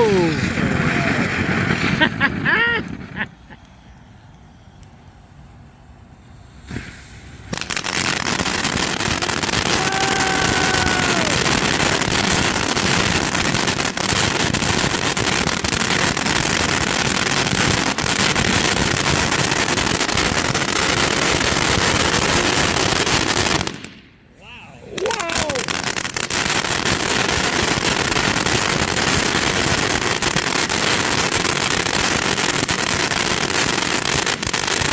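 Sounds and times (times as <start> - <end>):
firework cake crackling: 0.0 - 5.2, 6.5 - 34.9
firework whistling: 0.0 - 34.9.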